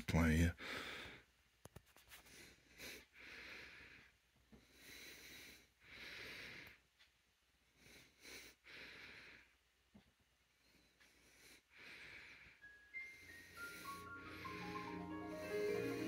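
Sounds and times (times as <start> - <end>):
person breathing: 0.6 - 1.3, 2.2 - 6.9, 7.6 - 9.7, 10.5 - 16.0.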